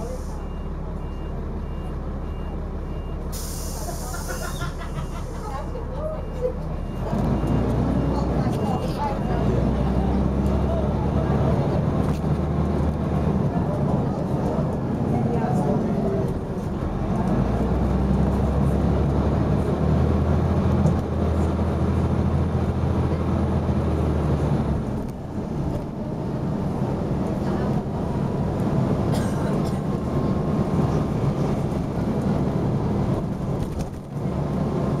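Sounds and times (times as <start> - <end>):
bus engine droning: 0.0 - 35.0
road noise: 0.0 - 35.0.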